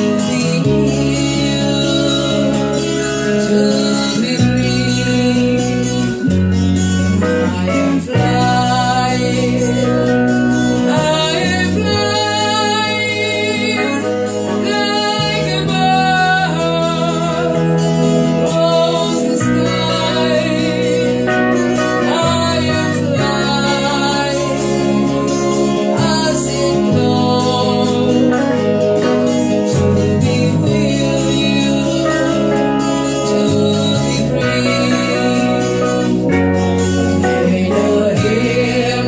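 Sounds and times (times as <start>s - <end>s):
bass: 0.0s - 39.0s
guitar: 0.0s - 39.0s
person singing: 0.0s - 39.0s.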